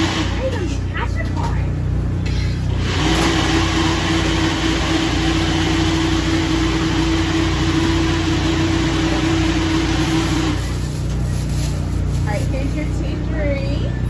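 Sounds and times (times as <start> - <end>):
electric appliance motor running: 0.0 - 14.0
low engine hum: 0.0 - 14.0.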